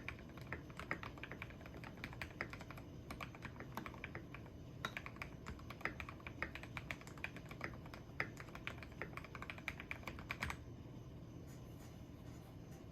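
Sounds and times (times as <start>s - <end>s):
mechanical keyboard typing: 0.0s - 10.6s.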